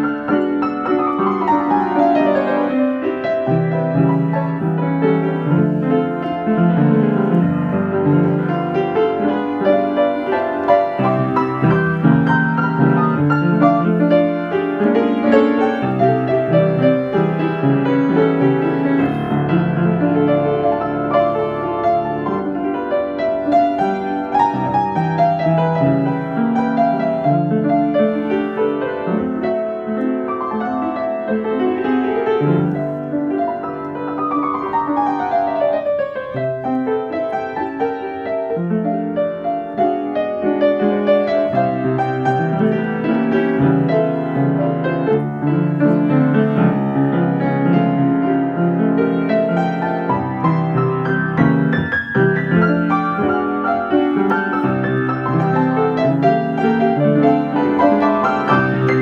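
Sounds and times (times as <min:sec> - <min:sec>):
slow solo piano piece: 0:00.0 - 0:59.0.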